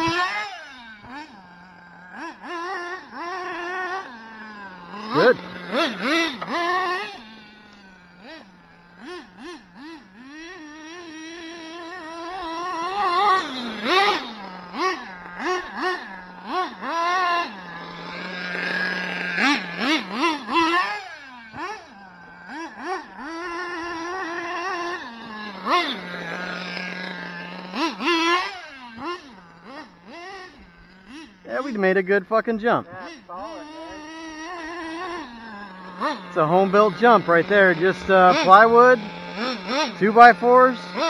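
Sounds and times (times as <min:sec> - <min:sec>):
model engine revving: 0:00.0 - 0:41.0.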